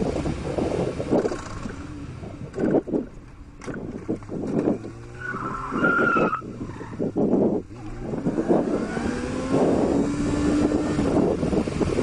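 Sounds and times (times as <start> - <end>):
motorcycle engine accelerating: 0.0 - 5.8, 6.5 - 12.0
wind rush: 0.0 - 12.0.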